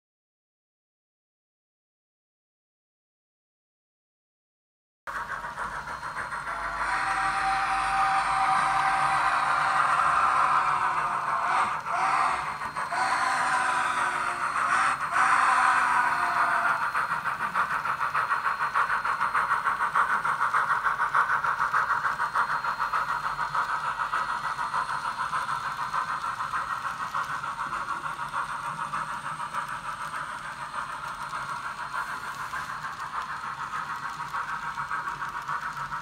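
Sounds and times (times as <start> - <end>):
model train steam chuffing: 5.1 - 36.0.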